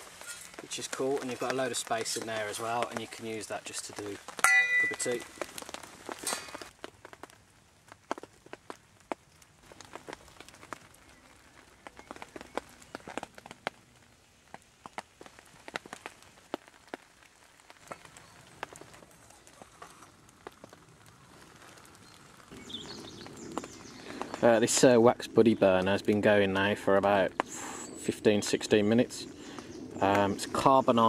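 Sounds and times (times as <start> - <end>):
raindrops tapping on leaves and metal: 0.0 - 31.0.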